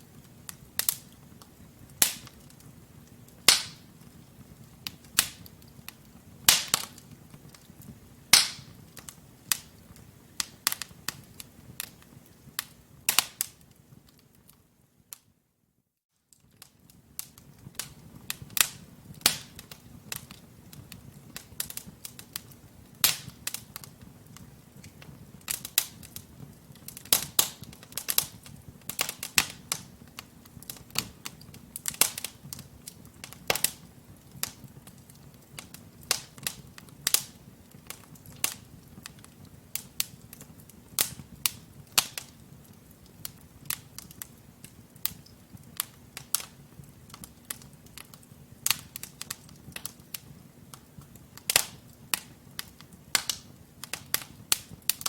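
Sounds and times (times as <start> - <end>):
fireplace logs crackling and popping: 0.0 - 15.4, 16.2 - 55.0
low rumble of flame: 0.0 - 15.4, 16.3 - 55.0.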